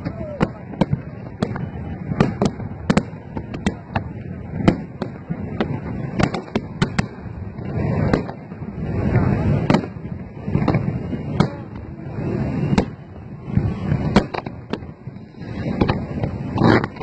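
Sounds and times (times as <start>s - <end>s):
constant background noise: 0.0s - 17.0s
fireworks bursting: 0.0s - 17.0s.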